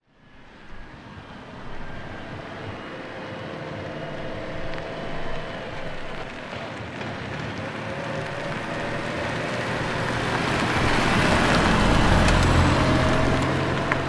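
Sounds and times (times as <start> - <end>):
cars passing slowly: 0.0 - 14.0.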